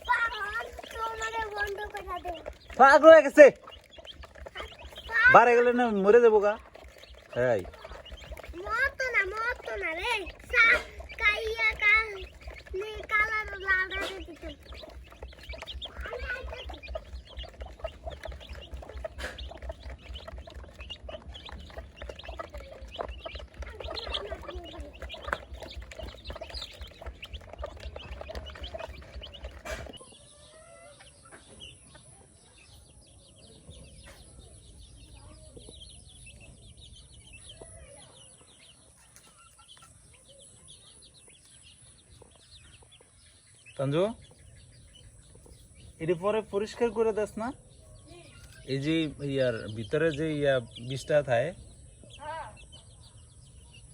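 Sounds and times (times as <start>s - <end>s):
chickens clucking and chirping: 0.0s - 53.9s.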